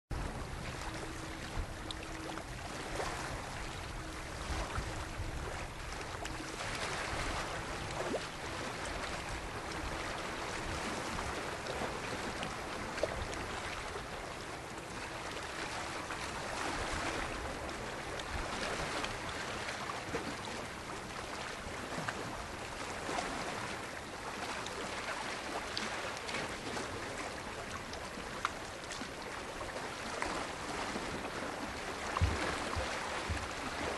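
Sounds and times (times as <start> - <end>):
lake waves washing in: 0.1 - 33.9.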